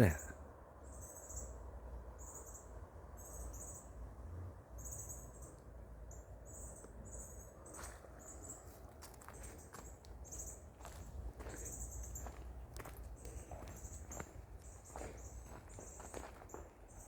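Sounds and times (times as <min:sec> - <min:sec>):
crickets chirping: 0:00.9 - 0:04.0, 0:04.7 - 0:17.0.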